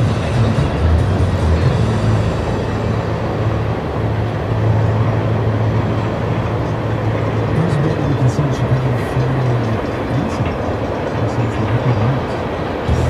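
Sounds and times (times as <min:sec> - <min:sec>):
vehicle running rumble: 0:00.0 - 0:13.0.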